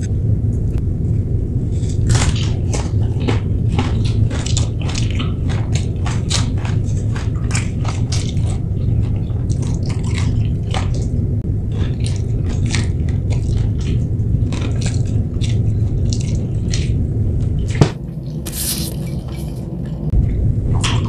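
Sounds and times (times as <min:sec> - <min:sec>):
low steady hum: 0:00.0 - 0:21.0
wet chewing and mouth smacks: 0:01.8 - 0:20.1.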